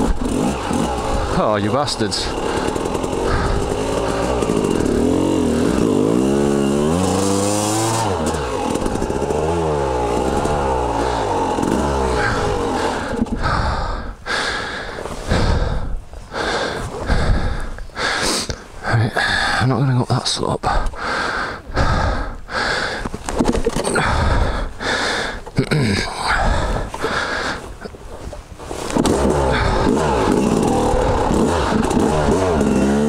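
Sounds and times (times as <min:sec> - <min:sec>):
dirt bike engine revving: 0:00.0 - 0:18.5, 0:23.7 - 0:27.6, 0:28.6 - 0:33.0.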